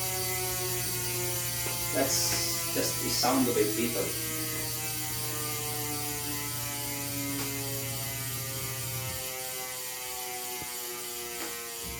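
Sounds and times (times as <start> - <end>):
bicycle freehub clicking buzz: 0.0 - 11.9.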